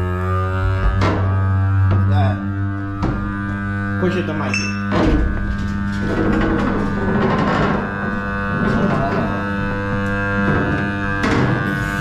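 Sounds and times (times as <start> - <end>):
machine motor low drone: 0.0 - 12.0.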